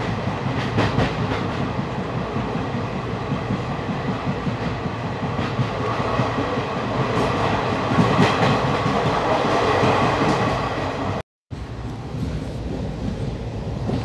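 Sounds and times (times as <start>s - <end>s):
train wheel and rail rumble: 0.0s - 14.0s
wind rush: 0.0s - 14.0s.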